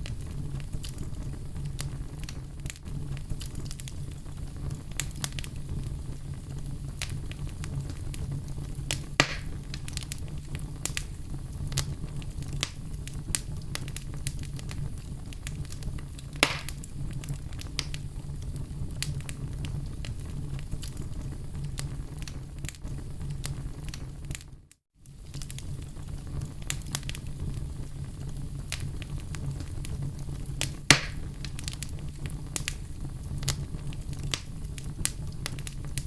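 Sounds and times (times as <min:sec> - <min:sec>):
fire crackling in a fireplace: 0:00.0 - 0:36.0.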